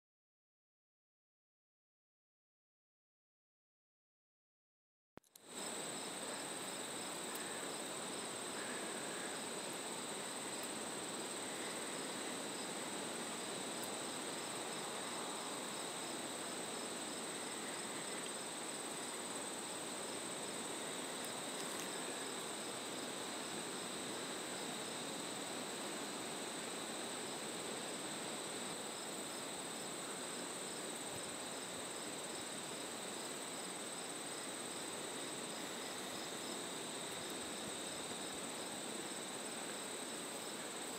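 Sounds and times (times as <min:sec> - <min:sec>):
steady background hiss: 0:05.3 - 0:40.9
insects trilling: 0:05.4 - 0:40.9.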